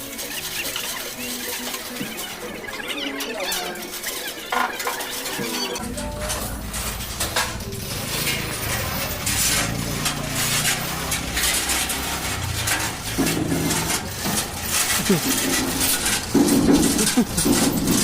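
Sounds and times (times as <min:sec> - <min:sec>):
metal parts clanking: 0:00.0 - 0:18.0.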